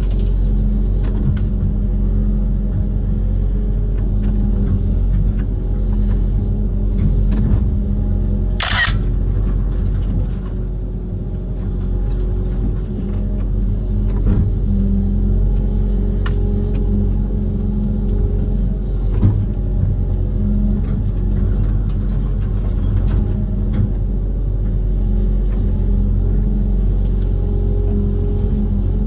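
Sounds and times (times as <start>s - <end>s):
diesel engine running steadily: 0.0s - 29.0s.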